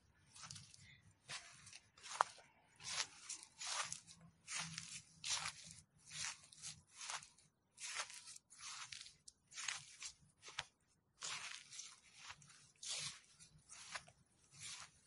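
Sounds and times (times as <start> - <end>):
footsteps crunching dry leaves: 0.3 - 15.0.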